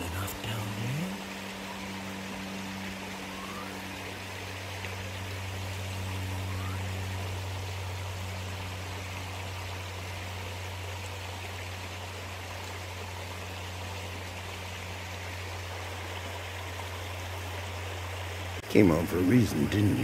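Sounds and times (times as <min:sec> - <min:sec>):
creek running over rocks: 0:00.0 - 0:20.0
steady low hum: 0:00.0 - 0:20.0.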